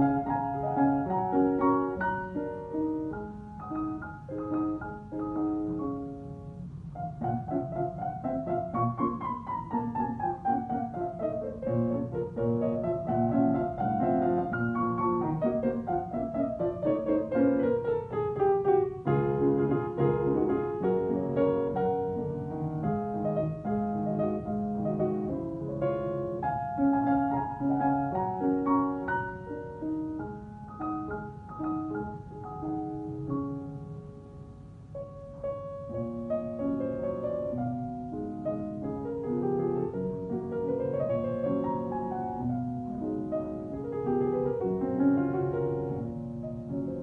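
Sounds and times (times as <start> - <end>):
solo grand piano: 0.0 - 47.0.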